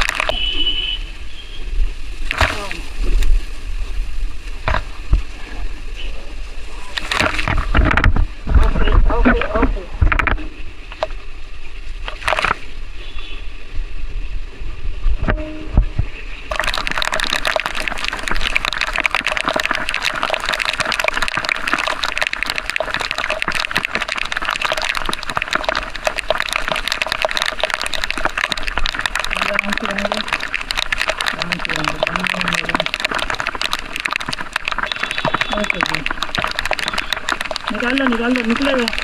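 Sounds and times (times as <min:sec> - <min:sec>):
heavy rain and water spray: 0:00.0 - 0:15.1, 0:15.8 - 0:39.0.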